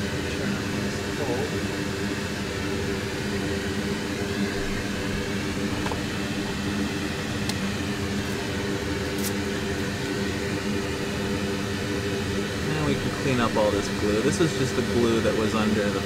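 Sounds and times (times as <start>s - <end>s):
electric blower fan whirring: 0.0s - 16.0s.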